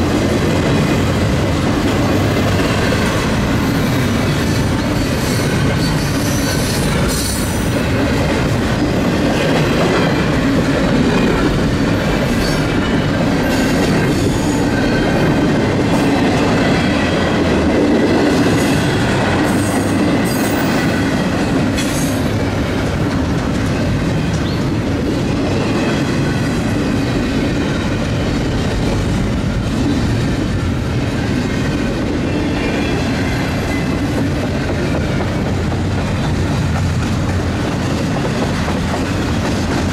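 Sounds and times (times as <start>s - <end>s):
rail joint clacks: 0.0s - 39.9s
steel wheels rumbling on rail: 0.0s - 39.9s.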